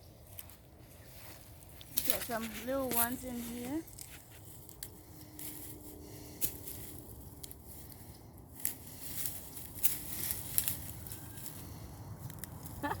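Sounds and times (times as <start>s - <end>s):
mulch and soil rustling: 0.0s - 13.0s.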